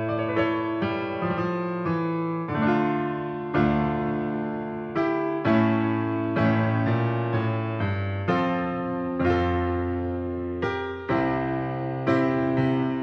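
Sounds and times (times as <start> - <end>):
piano keyboard slow chords: 0.0 - 13.0.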